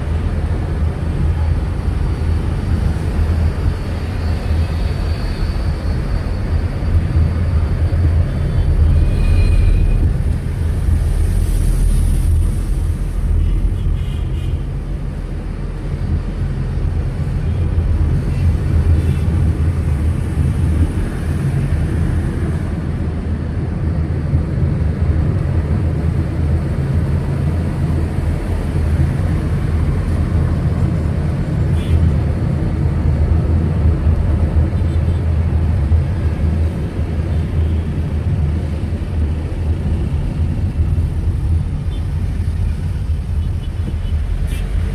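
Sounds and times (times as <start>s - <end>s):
car engine and tyre rumble: 0.0s - 44.9s.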